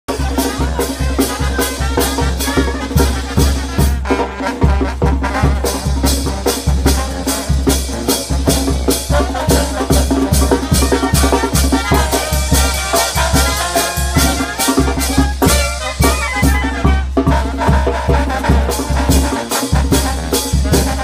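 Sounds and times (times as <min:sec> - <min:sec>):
sousaphone bass line: 0:00.1 - 0:04.1, 0:05.3 - 0:19.4
brass band playing dance music: 0:00.1 - 0:21.0
drums keeping a steady beat: 0:00.1 - 0:21.0.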